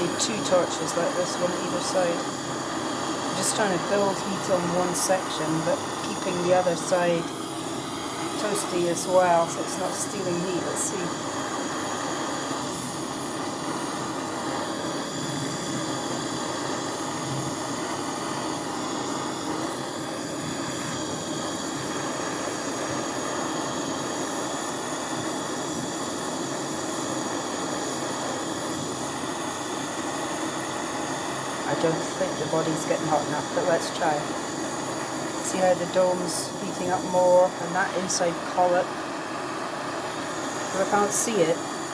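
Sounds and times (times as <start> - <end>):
gas torches hissing roar: 0.0 - 41.9.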